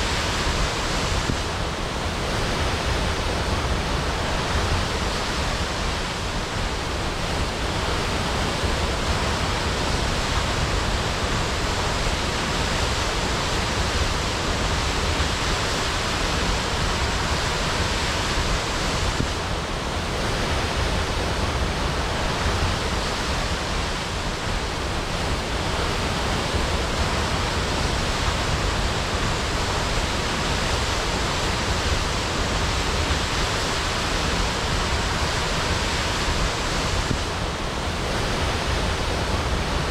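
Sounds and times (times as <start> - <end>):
waterfall crashing: 0.0 - 39.9.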